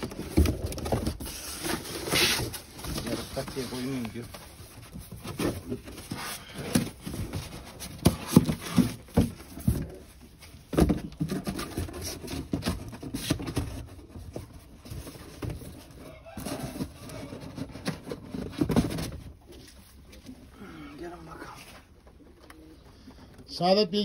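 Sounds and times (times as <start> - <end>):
knocks and rustling: 0.0 - 20.5.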